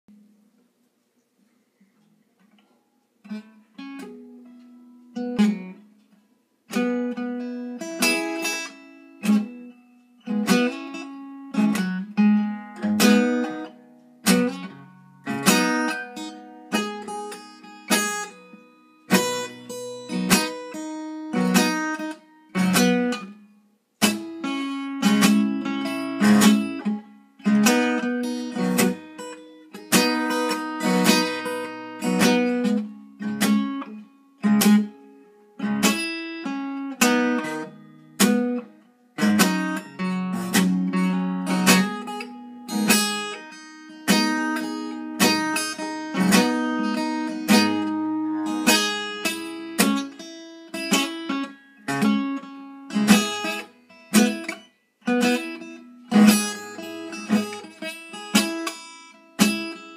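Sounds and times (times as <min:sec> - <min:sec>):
acoustic guitar strummed chords: 0:02.6 - 0:06.1, 0:06.7 - 0:59.9.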